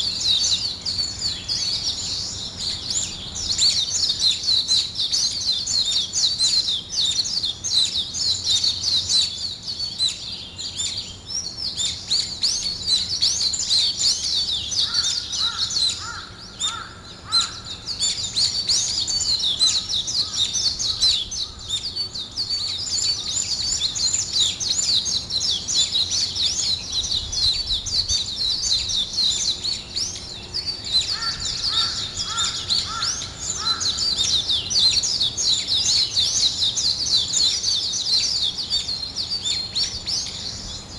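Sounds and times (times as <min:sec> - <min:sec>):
lower repeated bird call: 0:00.0 - 0:40.9
songbirds chirping and twittering: 0:00.0 - 0:40.9.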